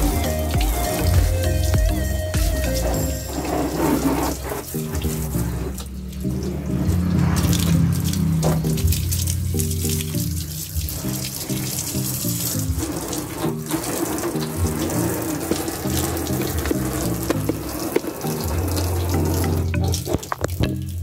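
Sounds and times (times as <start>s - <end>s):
background music with bass line: 0.0s - 21.0s
water running: 0.0s - 21.0s.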